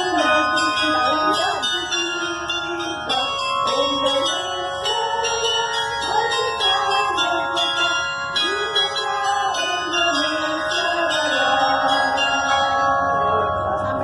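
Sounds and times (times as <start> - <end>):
church bells change ringing: 0.0 - 14.0.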